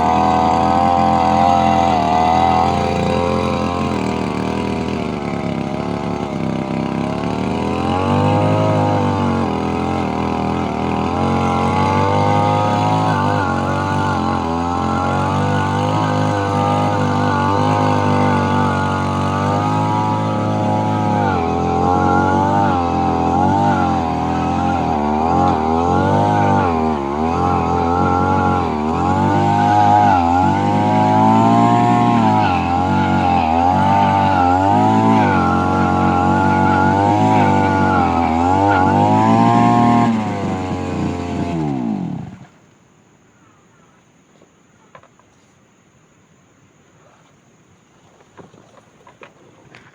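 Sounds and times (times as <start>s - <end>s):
brush cutter engine running: 0.0s - 42.6s.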